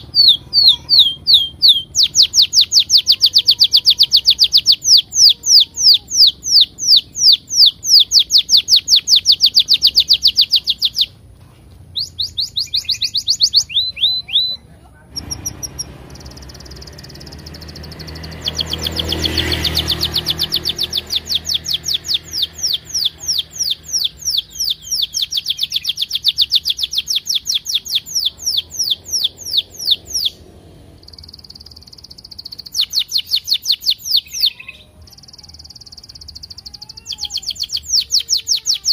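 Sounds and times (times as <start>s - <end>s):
canary singing chirps: 0.0s - 38.9s.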